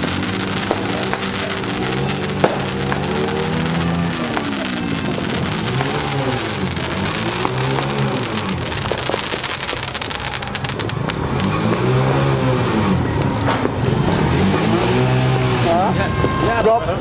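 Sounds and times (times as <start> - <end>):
fireworks crackling and popping: 0.0 - 14.2
engine revving: 0.0 - 16.0.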